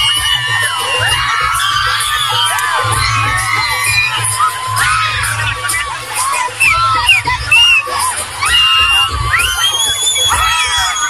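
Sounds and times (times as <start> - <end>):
crowd shouting and cheering: 0.0 - 11.0
loud music with pulsing bass: 0.0 - 11.0.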